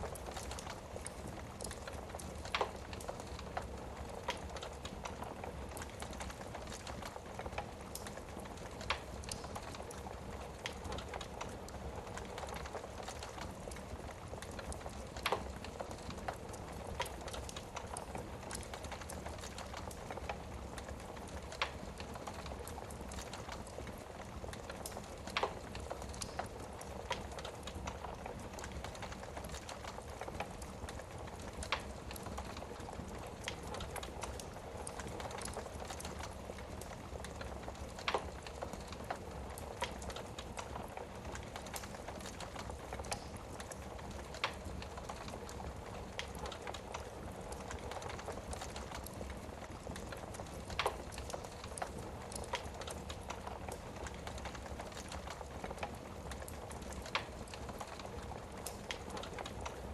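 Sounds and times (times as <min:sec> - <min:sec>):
fire popping: 0:00.0 - 0:59.9
wood fire crackling: 0:00.0 - 0:59.9.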